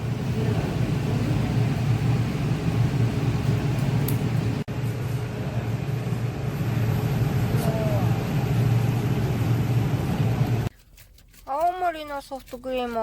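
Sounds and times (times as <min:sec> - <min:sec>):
road vehicle rumble: 0:00.0 - 0:10.7.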